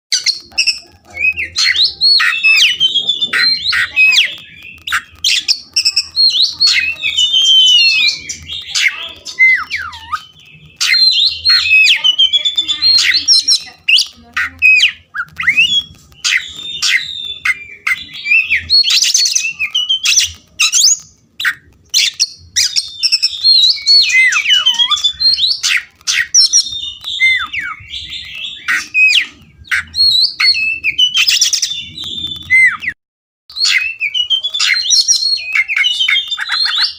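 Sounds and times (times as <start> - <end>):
bird whistled song with rasps: 0.1 - 36.9.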